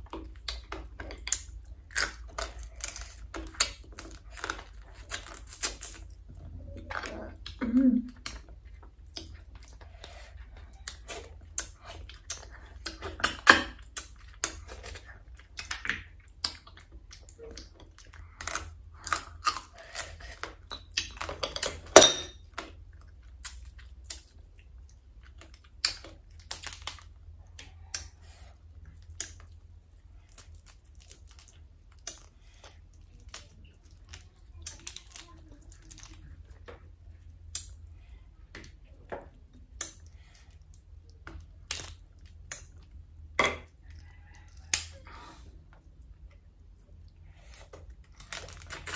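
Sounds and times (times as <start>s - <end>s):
chewing: 0.0s - 48.9s.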